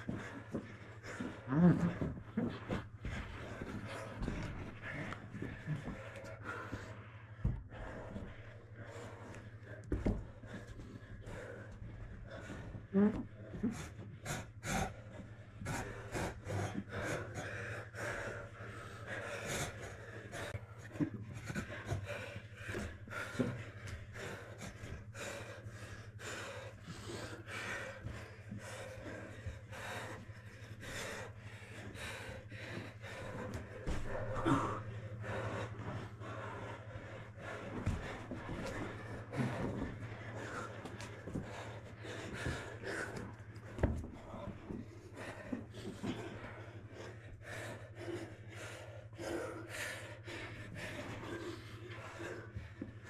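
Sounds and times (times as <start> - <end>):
hard breathing and panting: 0.0 - 53.0
steady low hum: 0.0 - 53.0.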